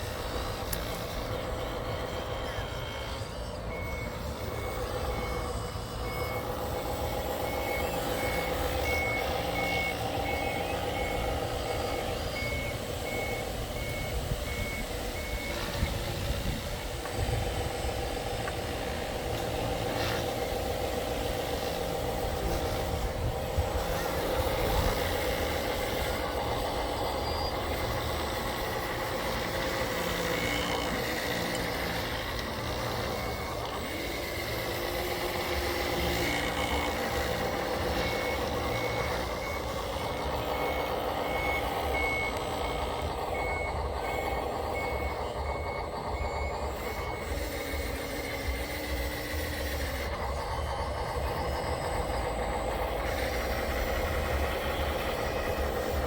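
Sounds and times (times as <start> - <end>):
construction machine running: 0.0 - 56.0
reversing beeper: 0.0 - 56.0.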